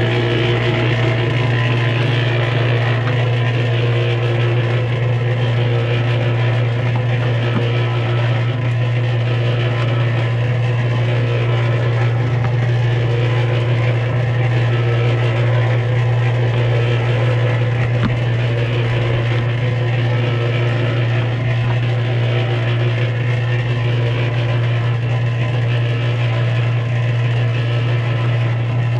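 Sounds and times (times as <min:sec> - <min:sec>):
cement mixer motor humming: 0:00.0 - 0:28.9.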